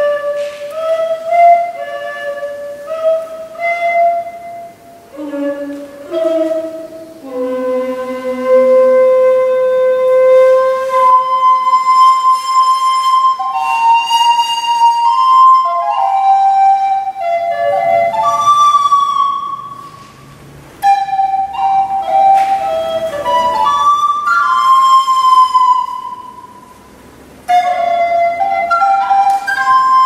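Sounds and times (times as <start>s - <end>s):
recorder playing long notes: 0.0s - 20.2s, 20.8s - 26.9s, 27.5s - 30.0s.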